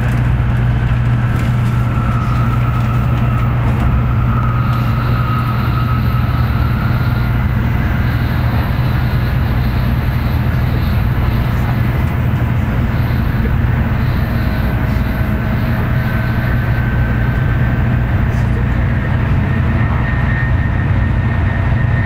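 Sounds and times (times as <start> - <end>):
train low rumble: 0.0 - 22.0
faint high whine: 1.0 - 22.0.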